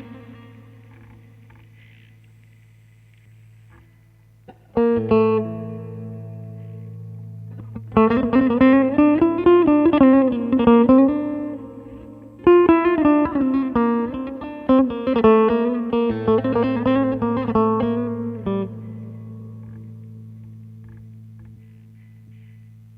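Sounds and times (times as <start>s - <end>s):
plucked saz melody: 0.0s - 2.2s, 3.8s - 22.9s.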